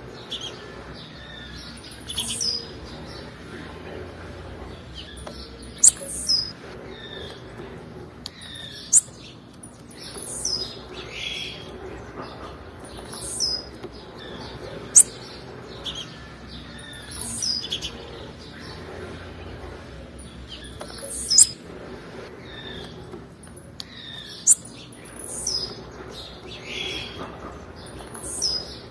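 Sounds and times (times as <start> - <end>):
bird chirping: 0.0 - 28.9.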